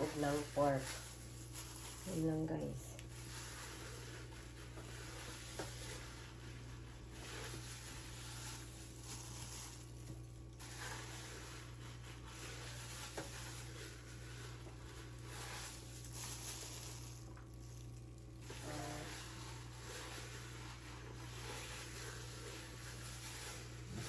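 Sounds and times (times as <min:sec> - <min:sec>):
gloved hands squishing meat: 0:00.1 - 0:24.0.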